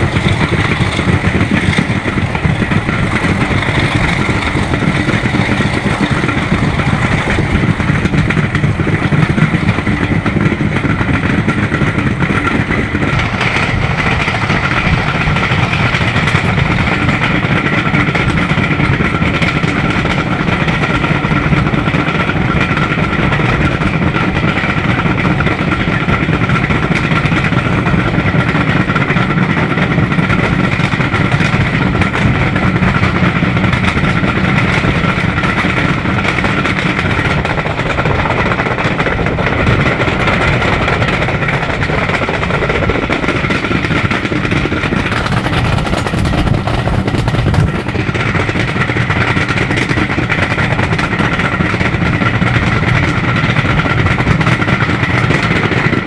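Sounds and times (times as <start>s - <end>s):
train running at speed: 0.0s - 56.0s.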